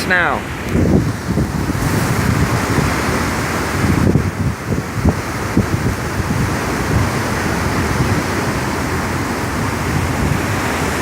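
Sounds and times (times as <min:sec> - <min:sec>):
strong wind blowing: 0:00.0 - 0:11.0
wind gusts buffeting microphone: 0:00.0 - 0:11.0.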